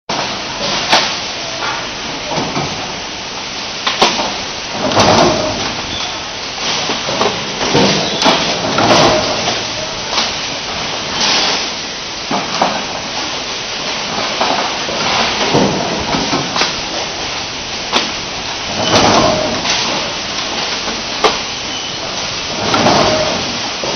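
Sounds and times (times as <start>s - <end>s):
factory machinery noise: 0.1s - 23.9s.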